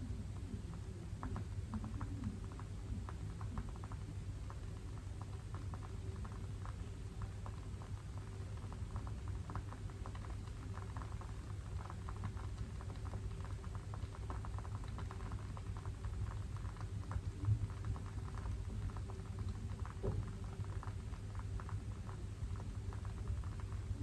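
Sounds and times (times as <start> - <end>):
candle wick crackling: 0.0 - 24.0.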